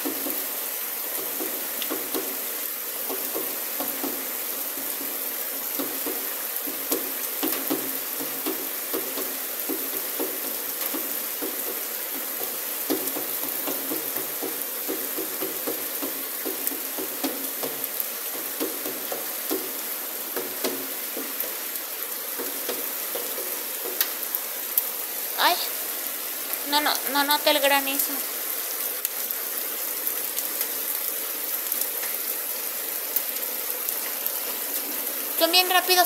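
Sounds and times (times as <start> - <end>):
hailstones ticking: 0.0 - 36.0
heavy rain hissing: 0.0 - 36.0.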